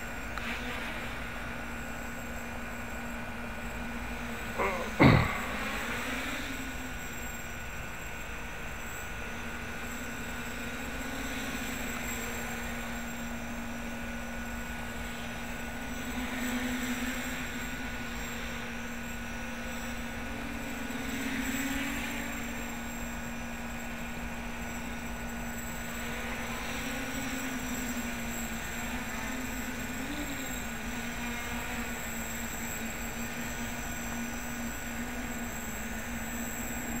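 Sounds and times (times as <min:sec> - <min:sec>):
quadcopter propellers buzzing: 0:00.0 - 0:37.0.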